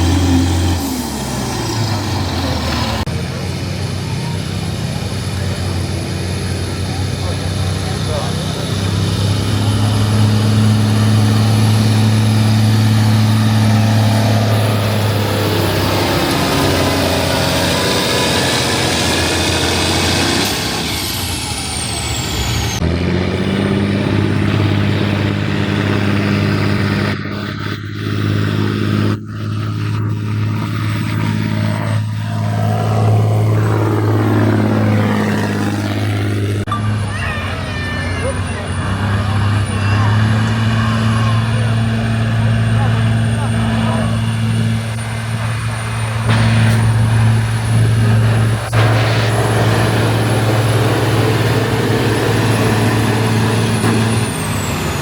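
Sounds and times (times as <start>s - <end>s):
vehicle engine running hard: 0.0s - 55.0s.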